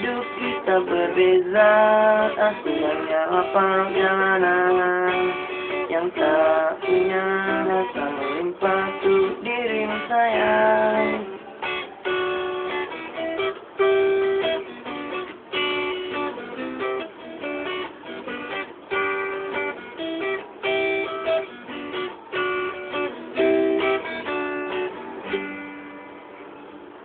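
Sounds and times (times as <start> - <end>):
guitar strumming chords: 0.0 - 27.0.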